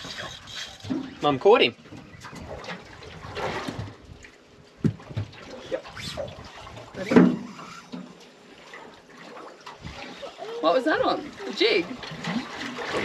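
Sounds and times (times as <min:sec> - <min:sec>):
water splashing around boat: 0:00.0 - 0:13.0.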